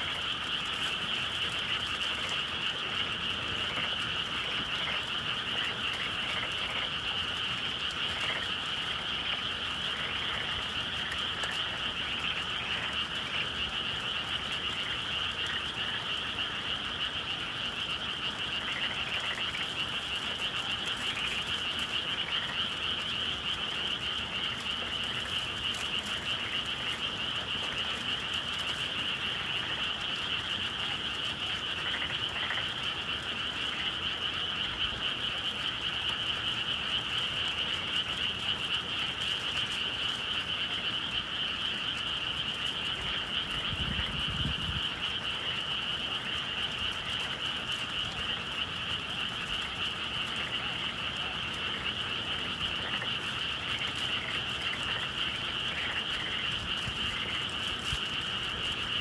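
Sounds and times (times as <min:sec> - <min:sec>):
chorus of frogs calling: 0:00.0 - 0:59.0.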